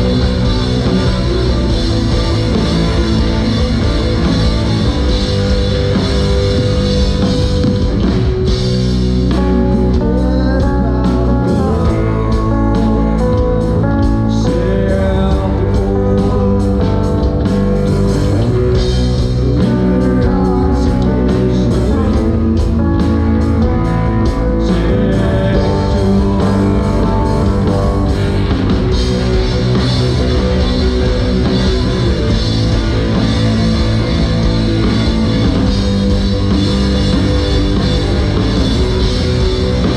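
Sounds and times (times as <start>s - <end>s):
bass: 0.0s - 39.9s
drum kit: 0.0s - 39.9s
guitar: 0.0s - 39.9s.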